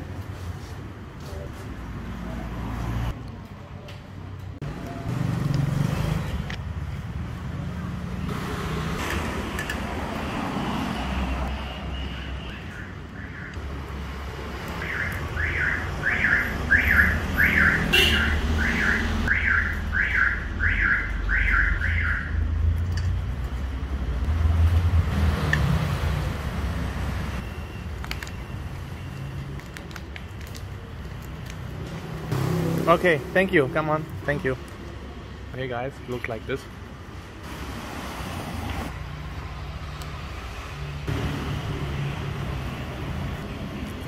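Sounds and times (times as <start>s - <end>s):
road traffic rumbling: 0.0s - 44.0s.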